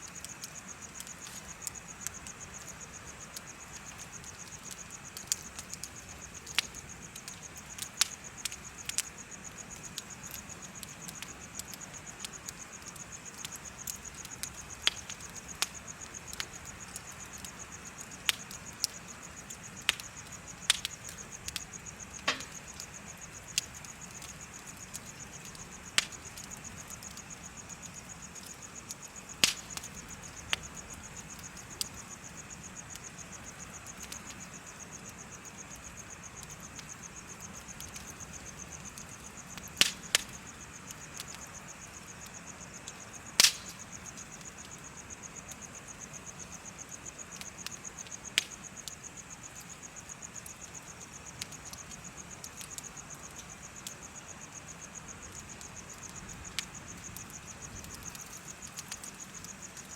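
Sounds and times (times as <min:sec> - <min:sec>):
bonfire crackling and popping: 0:00.0 - 0:59.9
crickets chirping: 0:00.0 - 0:59.9.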